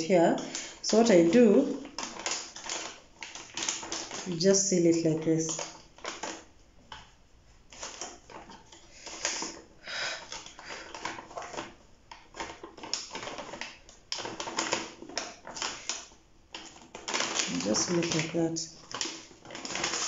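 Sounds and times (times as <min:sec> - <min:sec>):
plastic packet crinkling: 0:00.0 - 0:20.0.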